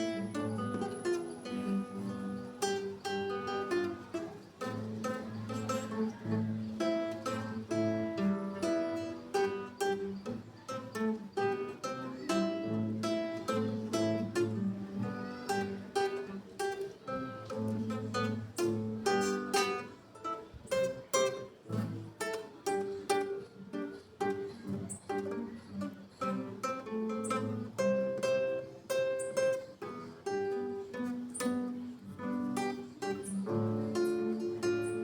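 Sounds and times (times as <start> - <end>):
acoustic guitar plucked: 0.0 - 35.0.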